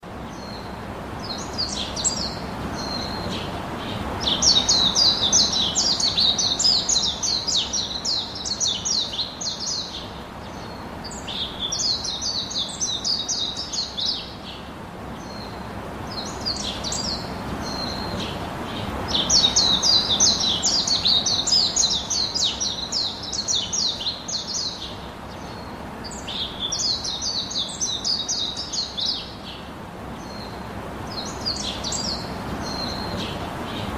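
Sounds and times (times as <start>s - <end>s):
birds chirping: 0.2s - 33.9s.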